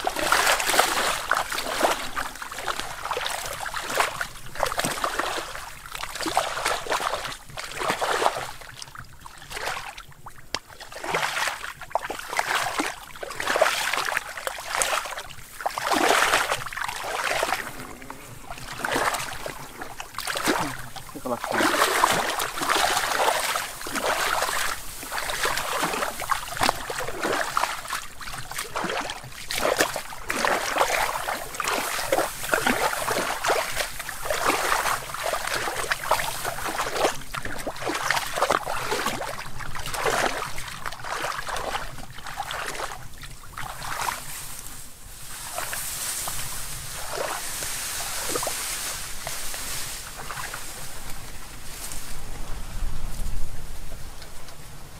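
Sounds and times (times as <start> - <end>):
footsteps splashing through mud: 0.0 - 52.3
soft steady rustling: 0.0 - 54.9.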